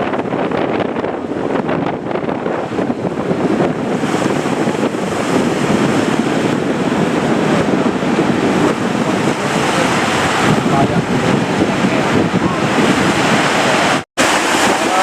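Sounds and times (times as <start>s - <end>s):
heavy surf breaking: 0.0s - 15.0s
wind buffeting microphone: 0.0s - 15.0s.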